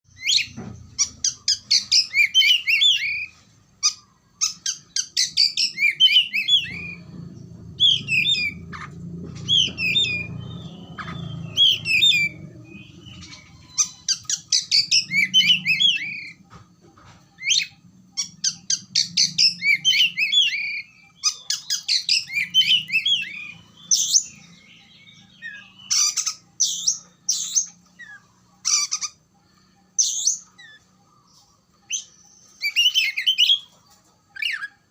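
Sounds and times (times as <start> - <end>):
bird singing chirps and whistles: 0.1 - 16.4, 17.3 - 29.2, 29.8 - 31.0, 31.8 - 33.7
faint low hum: 0.1 - 34.9.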